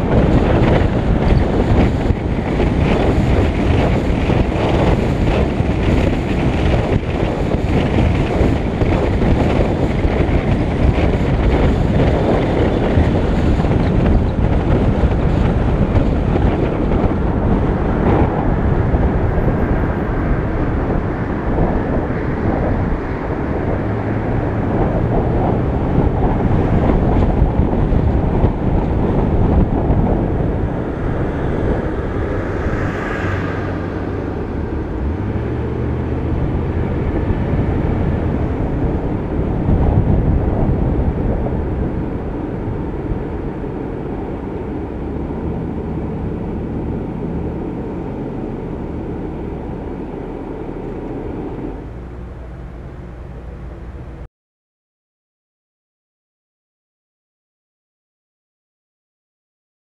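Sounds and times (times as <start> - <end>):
low engine hum: 0.0 - 54.3
road and tyre noise: 0.0 - 54.3
wind rushing over microphone: 0.0 - 54.3.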